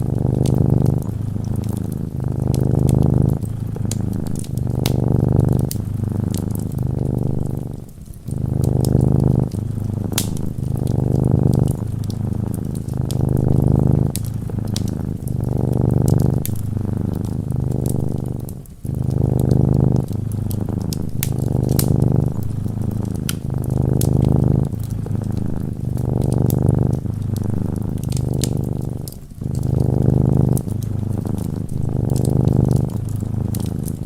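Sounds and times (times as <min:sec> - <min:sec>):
cat purring: 0:00.0 - 0:34.0
fireplace crackles: 0:00.0 - 0:34.0.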